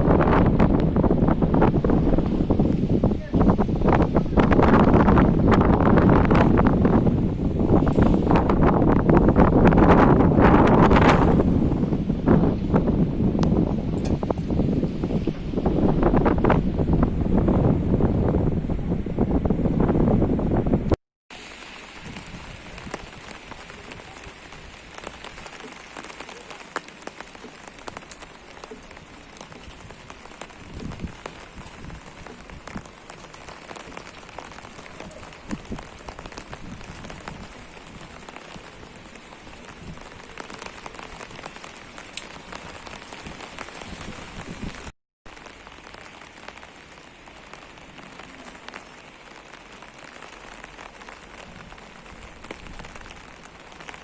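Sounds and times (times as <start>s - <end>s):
raindrops pattering on hard surfaces: 0.0s - 16.6s, 21.3s - 54.0s
steady rain falling: 0.0s - 54.0s.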